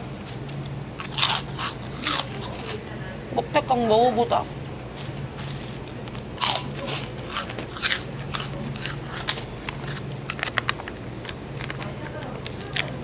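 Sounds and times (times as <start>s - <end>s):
crunchy snack chewing: 0.0s - 2.8s, 5.0s - 13.0s.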